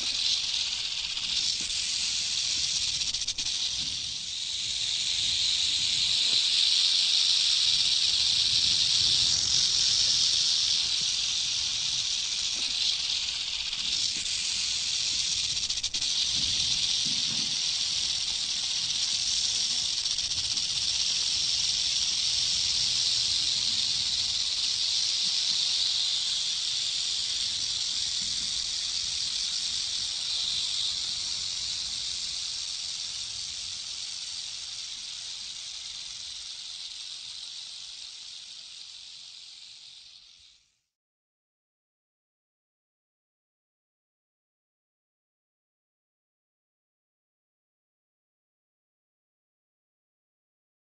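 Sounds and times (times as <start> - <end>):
snake hissing: 0.0 - 40.8.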